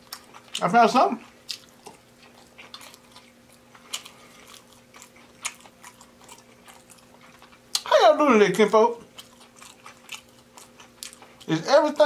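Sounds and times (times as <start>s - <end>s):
person chewing with wet mouth sounds: 0.0s - 7.9s, 8.6s - 12.0s.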